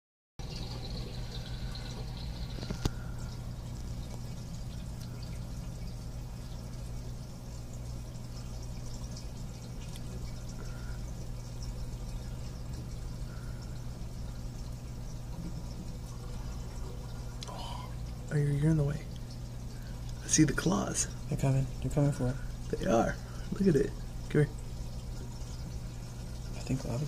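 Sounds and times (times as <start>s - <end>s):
low pump hum: 0.4s - 27.0s
water trickling and dripping: 0.4s - 27.0s.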